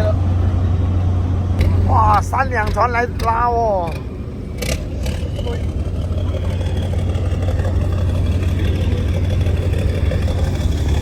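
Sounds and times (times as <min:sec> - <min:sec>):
marine diesel engines rumbling: 0:00.0 - 0:11.0.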